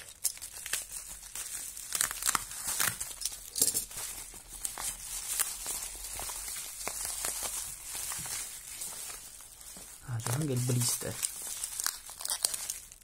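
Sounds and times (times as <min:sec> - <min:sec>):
sharp crackles: 0:00.0 - 0:03.6, 0:04.6 - 0:13.0
bubble wrap crinkling: 0:00.0 - 0:13.0.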